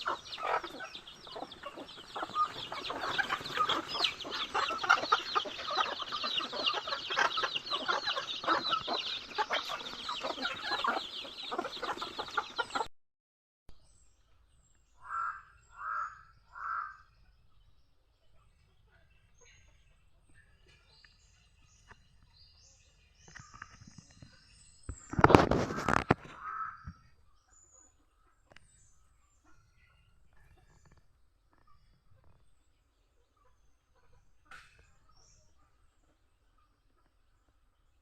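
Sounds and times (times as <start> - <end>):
chickens clucking: 0.0 - 12.9, 18.4 - 37.7.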